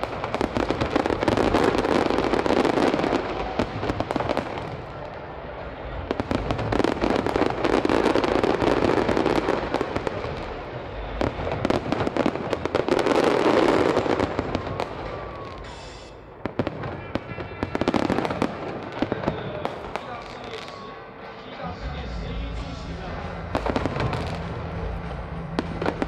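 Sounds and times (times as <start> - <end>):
fireworks bangs and crackles: 0.0 - 26.0
fireworks rumble: 0.0 - 26.0.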